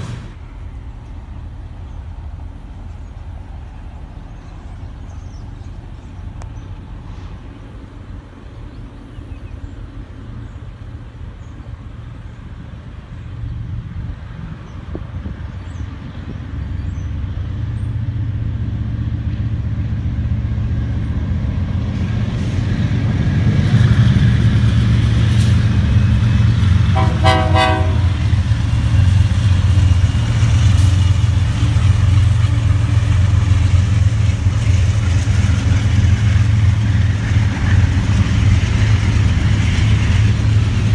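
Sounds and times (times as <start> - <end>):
freight train rumbling past: 0.0 - 40.9.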